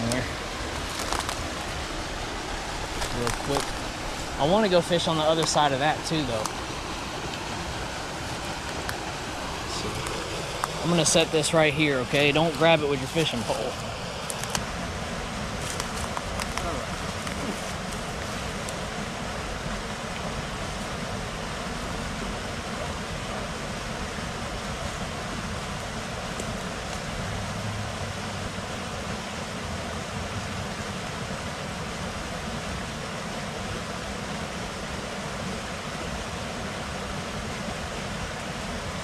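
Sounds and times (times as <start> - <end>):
water rushing over spillway: 0.0 - 39.0.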